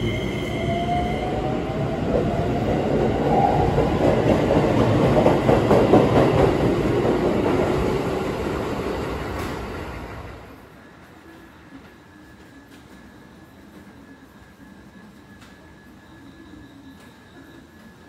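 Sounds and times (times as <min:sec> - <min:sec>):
train wheels rolling: 0:00.5 - 0:18.0.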